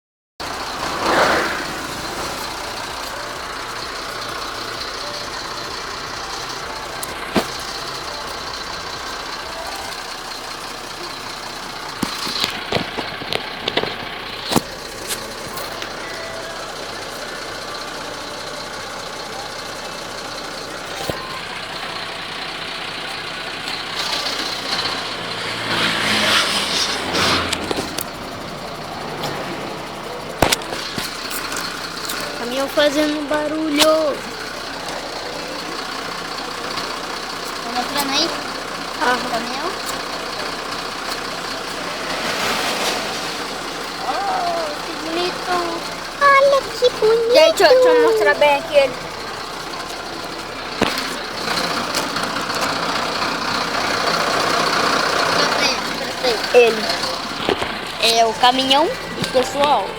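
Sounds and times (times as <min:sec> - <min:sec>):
truck engine running: 0:00.4 - 0:59.9.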